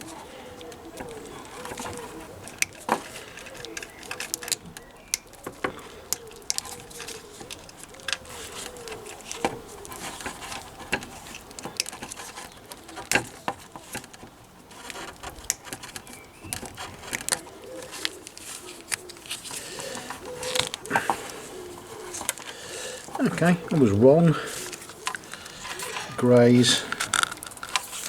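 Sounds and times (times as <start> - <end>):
small clicks and knocks of hands: 0.0 - 23.8, 24.4 - 26.2
pigeon cooing: 0.0 - 28.0.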